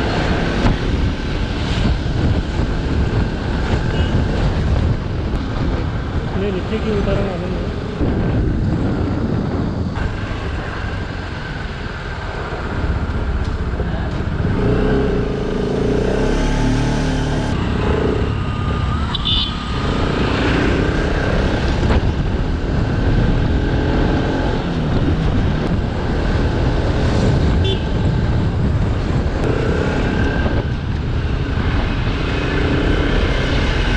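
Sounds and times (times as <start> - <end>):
wind and road noise: 0.0 - 33.9.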